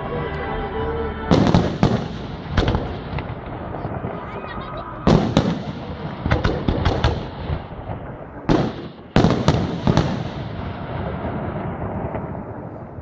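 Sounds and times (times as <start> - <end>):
fireworks bursting: 0.1 - 13.0.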